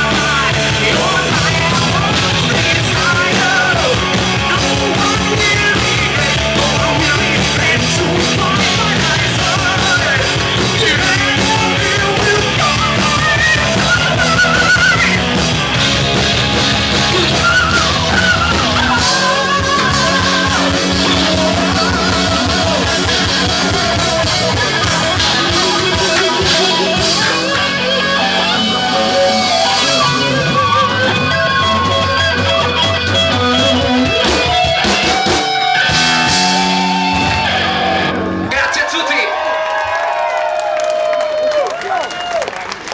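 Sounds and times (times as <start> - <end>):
drum beat: 0.0 - 38.1
electric guitars: 0.0 - 41.8.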